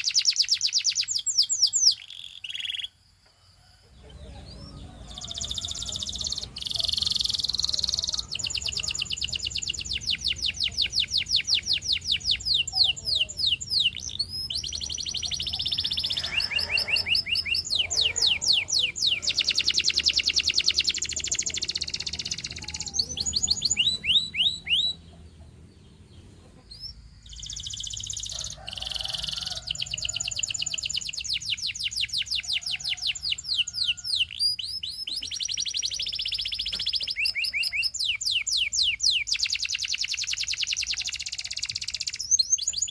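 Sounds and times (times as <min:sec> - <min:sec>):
canary singing trills: 0:00.0 - 0:03.0, 0:03.6 - 0:42.9.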